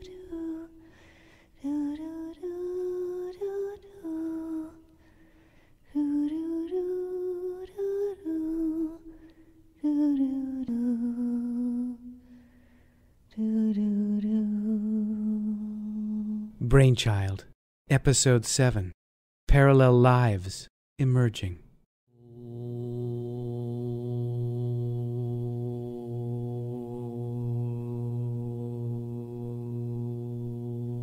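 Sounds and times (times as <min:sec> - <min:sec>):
person singing wordless melody: 0:00.0 - 0:12.7, 0:13.3 - 0:16.7, 0:22.2 - 0:31.0.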